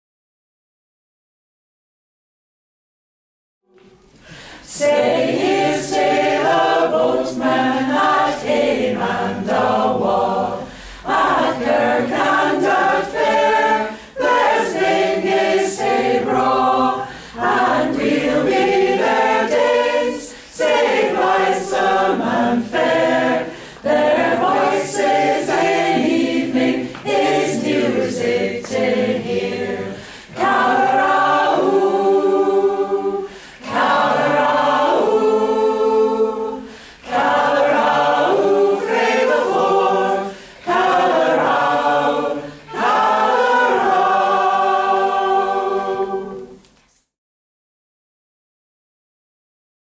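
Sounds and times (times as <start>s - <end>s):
choir singing a cappella: 3.8s - 47.2s.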